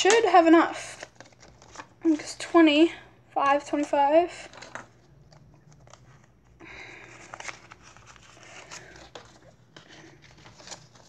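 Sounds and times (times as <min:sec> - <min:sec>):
banknotes rustling: 0:00.1 - 0:02.3, 0:03.7 - 0:11.0.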